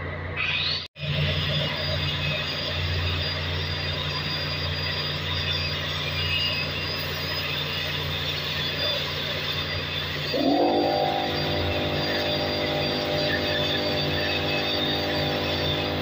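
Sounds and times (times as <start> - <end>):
low machinery hum: 0.0 - 16.0
arc welding crackling: 1.7 - 16.0.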